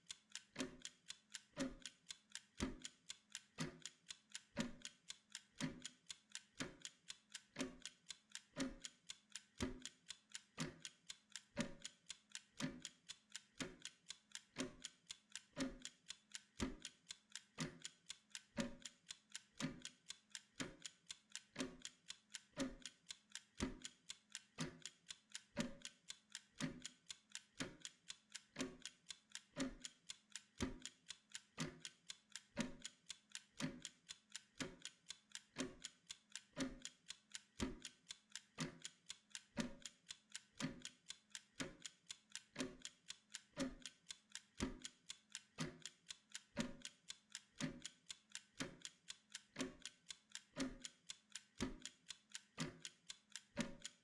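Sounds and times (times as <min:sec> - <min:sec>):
mechanical kitchen timer ticking: 0:00.0 - 0:54.0.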